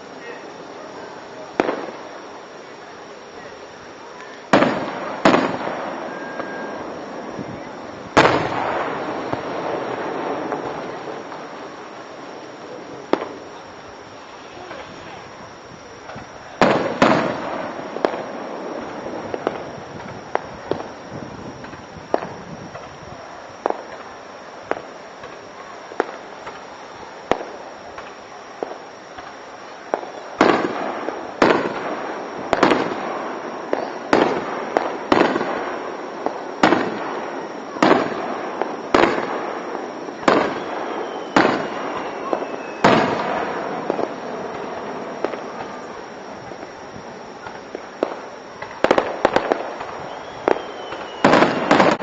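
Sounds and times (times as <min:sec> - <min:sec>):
fireworks bursting with echo: 0:00.0 - 0:52.0.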